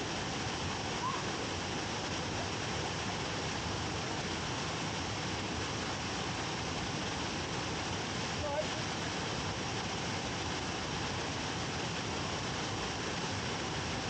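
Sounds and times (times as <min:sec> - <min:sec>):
waterfall pouring: 0:00.0 - 0:14.0.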